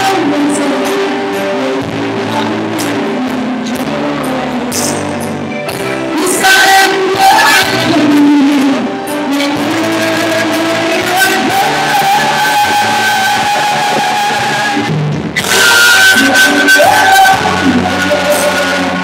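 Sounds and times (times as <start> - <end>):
guitar: 0.0 - 19.0
live band music: 0.0 - 19.0
person singing: 0.0 - 19.0.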